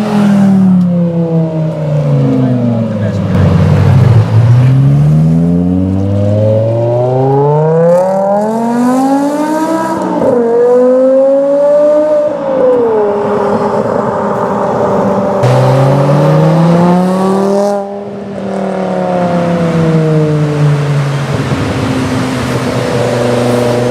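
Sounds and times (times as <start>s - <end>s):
car engine accelerating hard: 0.0s - 23.9s.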